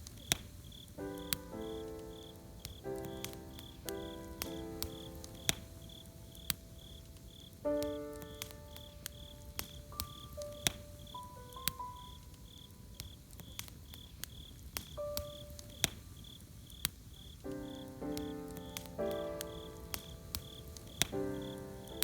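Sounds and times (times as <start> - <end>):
campfire crackling and popping: 0.0 - 22.0
crickets chirping: 0.0 - 22.0
slow soft melody: 1.0 - 13.4, 15.0 - 15.8, 17.4 - 22.0.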